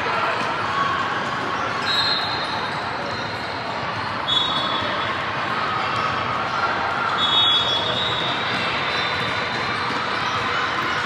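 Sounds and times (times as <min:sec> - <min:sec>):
hubbub of voices and play: 0:00.0 - 0:11.0.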